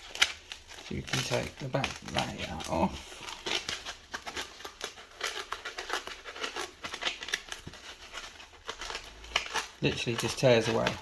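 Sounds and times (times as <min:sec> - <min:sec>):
foam tearing with crackles: 0:00.0 - 0:11.0.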